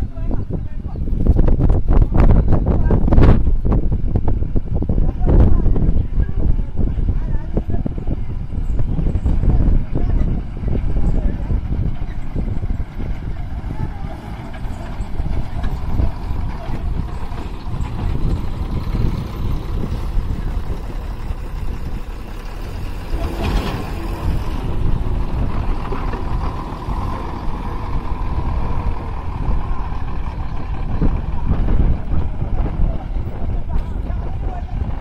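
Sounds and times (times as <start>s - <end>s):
truck diesel engine rumbling: 0.0s - 35.0s.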